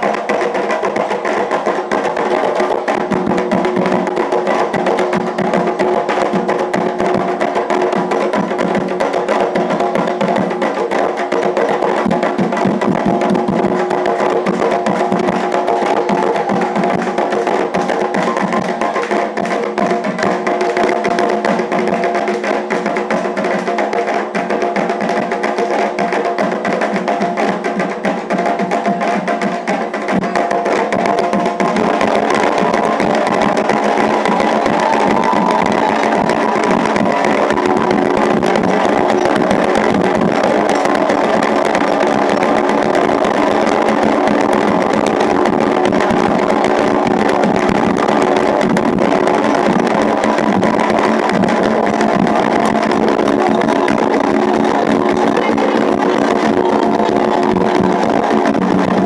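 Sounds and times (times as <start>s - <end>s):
hand drums: 0.0s - 59.0s
sharp struck percussion: 0.0s - 59.0s.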